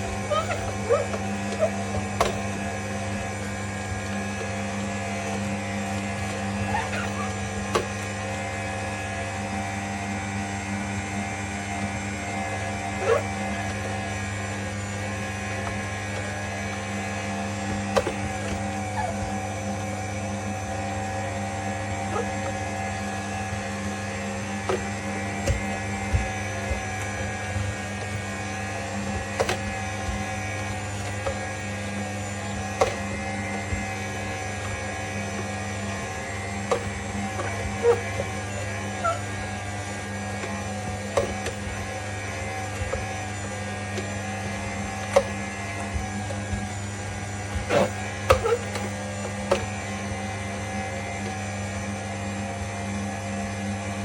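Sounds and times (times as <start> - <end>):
juicer motor humming: 0.0 - 54.0.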